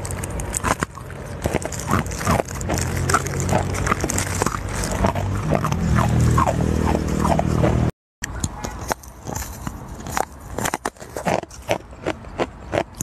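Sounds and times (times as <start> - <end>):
crunching ice with teeth: 0.0 - 7.9, 8.7 - 13.0.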